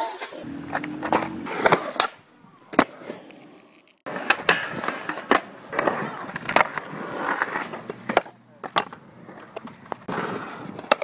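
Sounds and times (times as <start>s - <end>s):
skateboard clacking on ground: 0.0s - 11.0s
skateboard wheels rolling on concrete: 0.0s - 11.0s.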